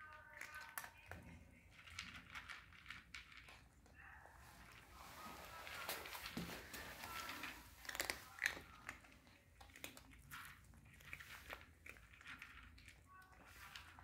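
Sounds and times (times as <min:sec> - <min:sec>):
cats crunching food: 0:00.0 - 0:14.0.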